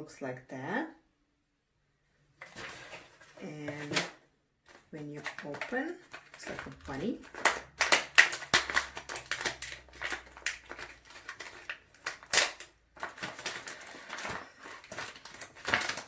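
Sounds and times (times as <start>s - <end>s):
packaging crackling and rustling: 2.4s - 16.0s.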